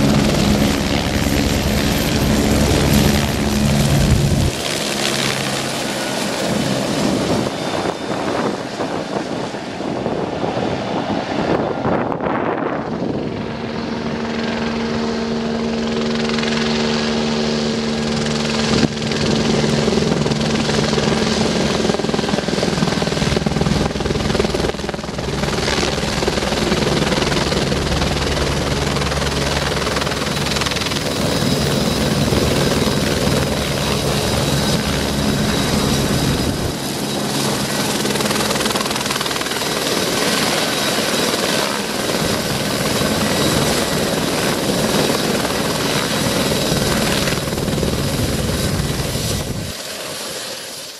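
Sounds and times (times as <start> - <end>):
helicopter rotor and turbine: 0.0 - 50.9.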